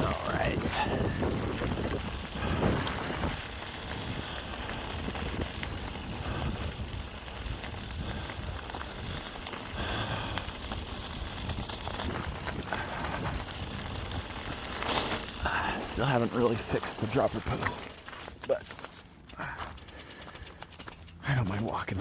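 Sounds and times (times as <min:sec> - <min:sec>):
wind rumbling on microphone: 0:00.0 - 0:17.8
bike rattles and clicks: 0:00.0 - 0:22.0
bike tyres rolling on dirt: 0:00.0 - 0:22.0.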